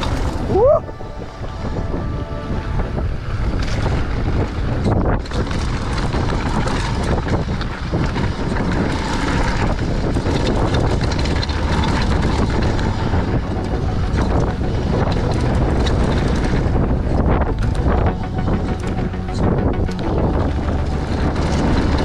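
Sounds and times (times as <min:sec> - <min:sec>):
bike rattling over bumps: 0:00.0 - 0:00.9, 0:02.7 - 0:22.0
bike tyres rolling over gravel: 0:00.0 - 0:22.0
wind on microphone: 0:00.0 - 0:22.0.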